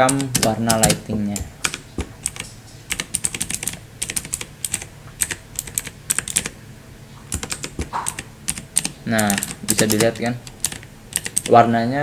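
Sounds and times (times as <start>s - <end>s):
mechanical keyboard keys clicking: 0.0s - 6.6s, 7.3s - 11.6s.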